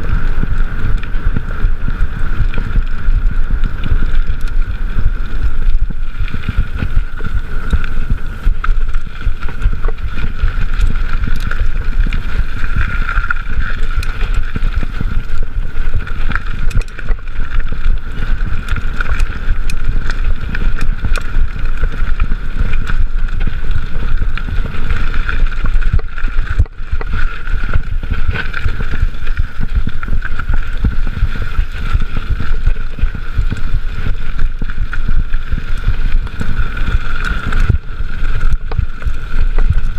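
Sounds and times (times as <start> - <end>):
bike clicks and rattles: 0.0 - 39.9
bike tyres rumbling on trail: 0.0 - 39.9
wind buffeting microphone: 0.0 - 39.9.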